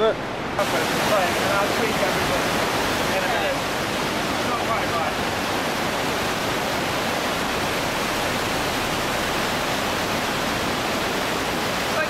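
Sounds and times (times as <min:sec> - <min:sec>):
waterfall rushing in a cave: 0:00.0 - 0:12.0.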